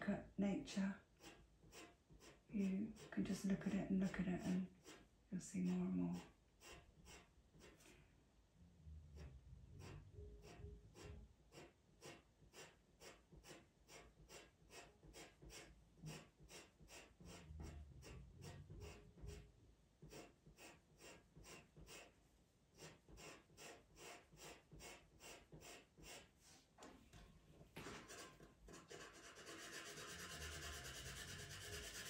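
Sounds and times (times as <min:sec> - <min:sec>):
pencil scratching on paper: 0:01.0 - 0:08.1, 0:09.2 - 0:26.6, 0:27.8 - 0:32.0.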